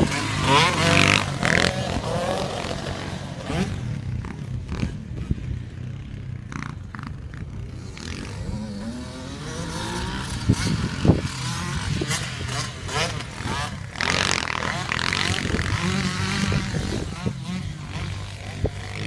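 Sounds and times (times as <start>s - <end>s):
dirt bike engines running: 0.0s - 19.0s.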